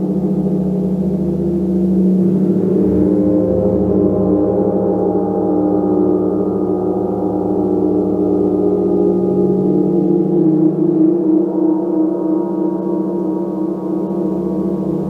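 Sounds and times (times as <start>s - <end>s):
gong sounding continuously: 0.0s - 15.0s.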